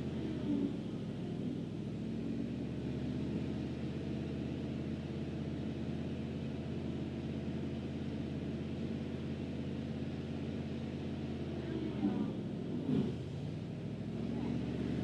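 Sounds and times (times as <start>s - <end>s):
truck engine running steadily: 0.0s - 15.0s.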